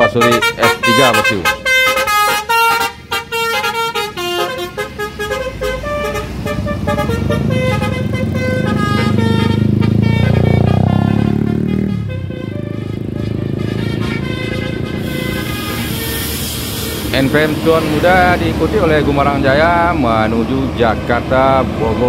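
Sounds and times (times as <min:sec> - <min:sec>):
bus engine noise: 0:00.0 - 0:22.0
multi-tone bus horn melody: 0:00.0 - 0:22.0.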